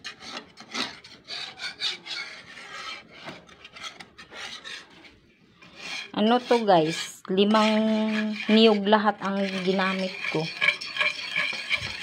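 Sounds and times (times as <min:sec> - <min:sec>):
spoon scraping bottom of pan: 0:00.0 - 0:12.0.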